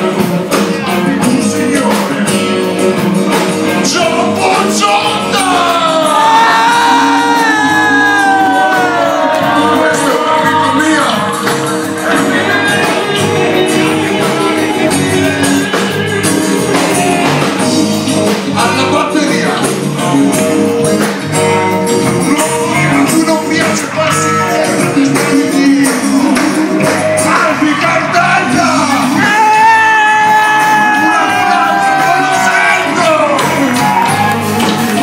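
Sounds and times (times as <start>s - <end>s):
lead singer singing: 0.0s - 20.2s, 22.0s - 35.0s
drums: 0.0s - 35.0s
rock band guitars: 0.0s - 35.0s.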